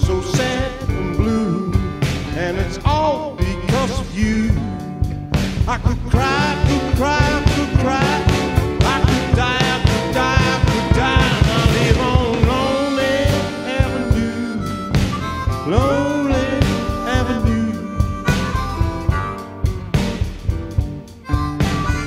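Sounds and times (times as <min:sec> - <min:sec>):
bass: 0:00.0 - 0:22.0
guitar: 0:00.0 - 0:22.0
harmonica bending notes: 0:00.0 - 0:22.0
steady drum beat: 0:00.0 - 0:22.0.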